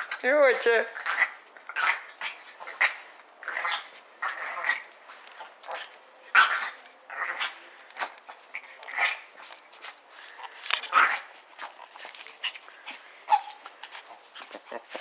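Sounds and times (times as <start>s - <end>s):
small dogs yapping: 0.0s - 15.0s.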